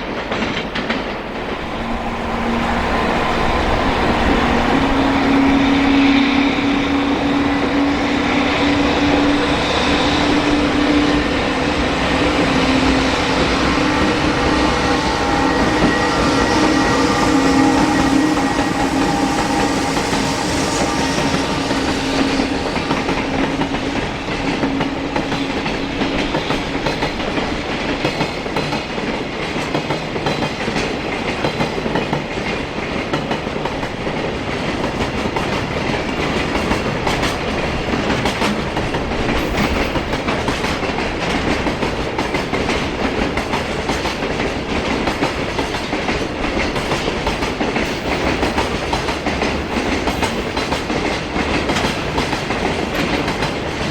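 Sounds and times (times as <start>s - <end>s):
train wheels clacking on rail joints: 0.0s - 53.9s.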